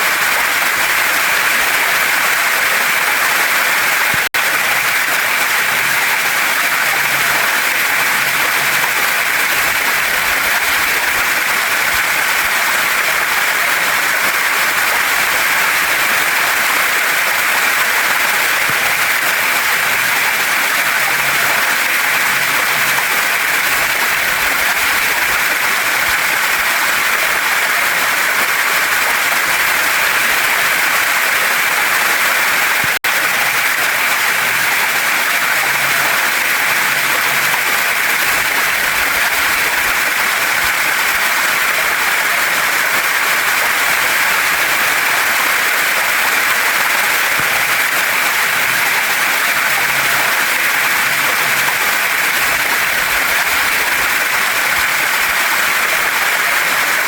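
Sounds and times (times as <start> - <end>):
waterfall rushing over rocks: 0.0 - 57.0.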